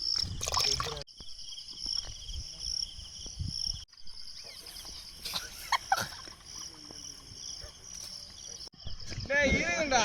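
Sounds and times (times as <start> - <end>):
insects chorus: 0.0 - 10.0.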